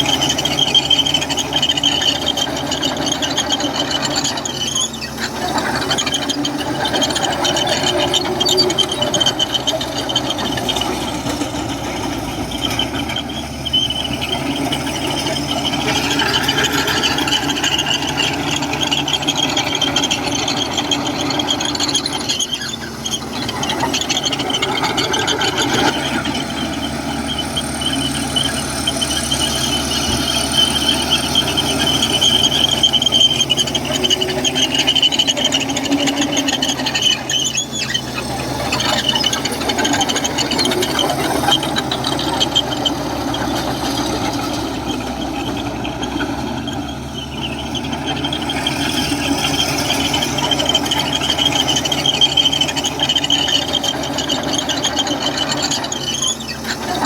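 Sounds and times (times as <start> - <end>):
diesel engine running: 0.0 - 57.0
steel tracks squealing: 0.0 - 57.0.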